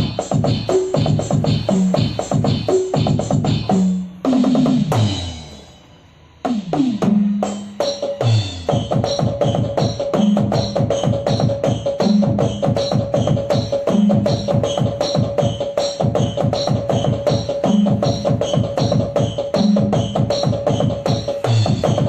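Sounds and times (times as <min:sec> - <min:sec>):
electronic drum beat: 0:00.0 - 0:22.0.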